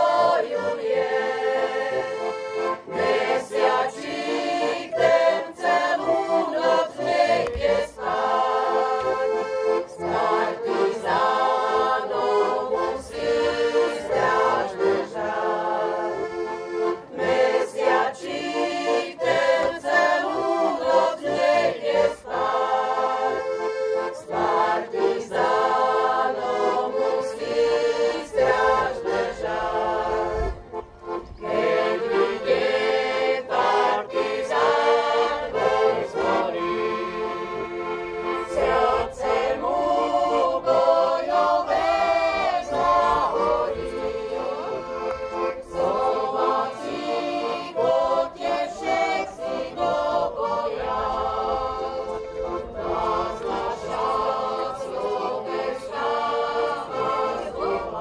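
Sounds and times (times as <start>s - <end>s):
choir singing slow song: 0.0s - 58.0s.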